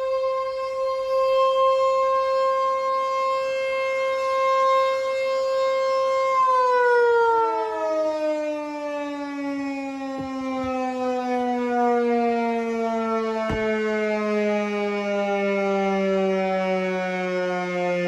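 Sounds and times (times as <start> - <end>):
warning siren: 0.0 - 18.0.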